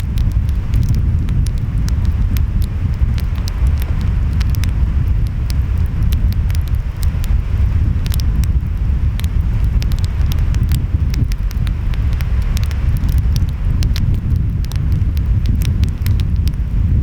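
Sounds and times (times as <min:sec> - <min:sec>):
wind: 0:00.0 - 0:17.0
wood fire crackling and popping: 0:00.0 - 0:17.0.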